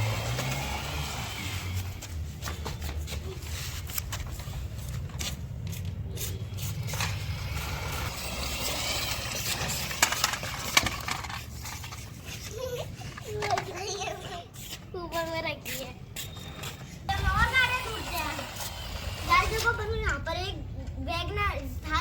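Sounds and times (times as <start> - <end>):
plastic toy wheels rumbling: 0.0 - 14.4, 16.2 - 20.5
clicks and scrapes of toys: 2.0 - 20.2.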